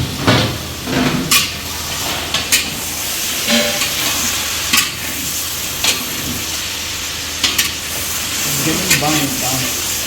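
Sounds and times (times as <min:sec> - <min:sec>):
vegetables sizzling in oil: 0:00.1 - 0:10.0.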